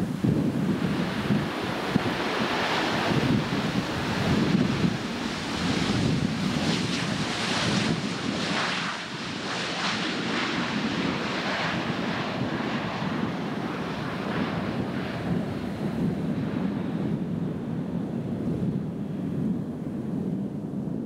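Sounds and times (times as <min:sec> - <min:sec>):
jet engines rushing: 0:00.0 - 0:17.7
wind buffeting microphone: 0:00.0 - 0:21.0.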